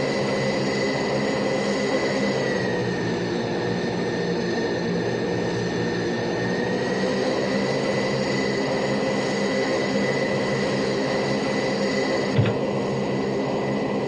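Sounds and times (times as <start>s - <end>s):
turboprop aircraft engines running: 0.0s - 14.0s.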